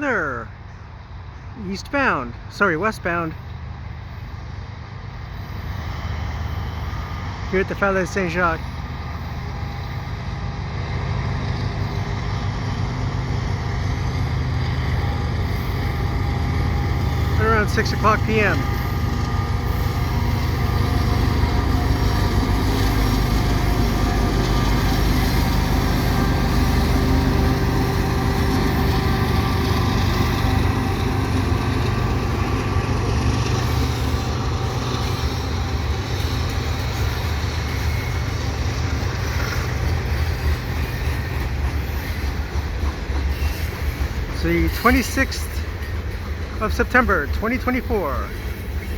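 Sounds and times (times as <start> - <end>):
freight train passing: 0.0 - 48.9.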